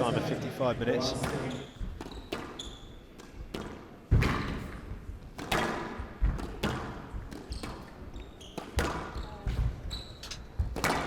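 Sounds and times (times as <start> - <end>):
squash racket strikes: 1.1 - 11.0
ball hitting court walls: 1.2 - 11.0.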